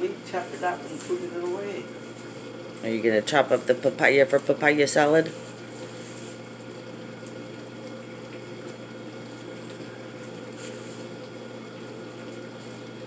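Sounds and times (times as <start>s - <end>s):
low hum of appliance motor: 0.0s - 13.0s.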